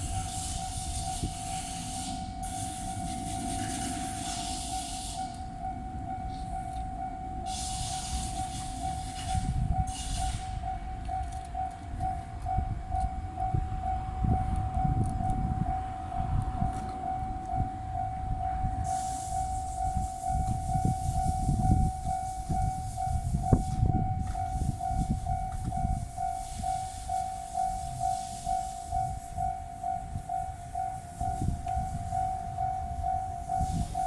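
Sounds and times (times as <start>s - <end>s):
level crossing warning bell: 0.0s - 34.0s
train rumbling past: 0.0s - 34.0s.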